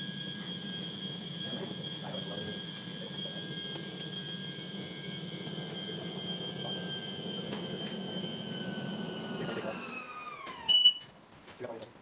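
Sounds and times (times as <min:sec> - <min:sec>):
hydraulic pump motor whining: 0:00.0 - 0:11.0.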